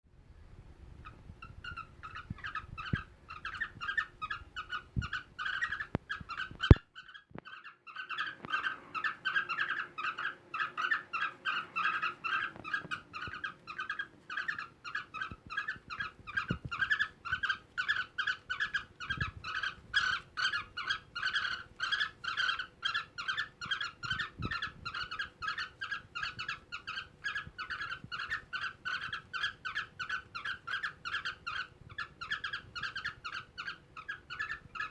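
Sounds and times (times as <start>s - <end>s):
cockatiels chirping: 1.0s - 34.9s.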